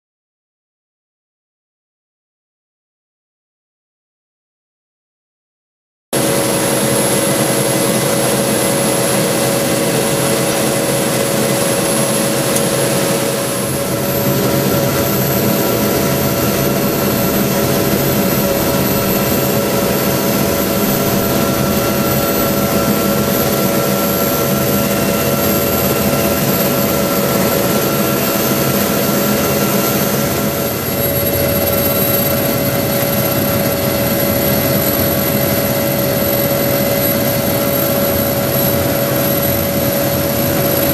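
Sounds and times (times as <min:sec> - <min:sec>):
helicopter turbine whine: 0:06.2 - 0:40.9
rotor and transmission drone: 0:06.2 - 0:40.9.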